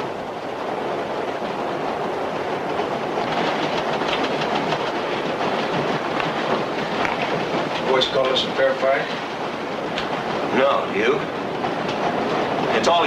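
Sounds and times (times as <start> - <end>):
subway car rumble and rattle: 0.0 - 13.0
wheel clicks on rails: 0.0 - 13.0.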